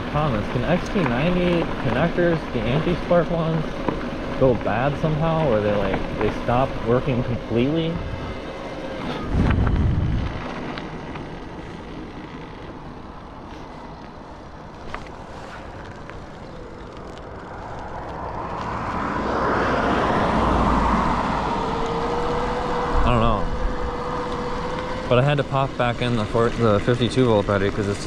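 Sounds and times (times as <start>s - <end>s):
bike riding noise: 0.0s - 28.0s.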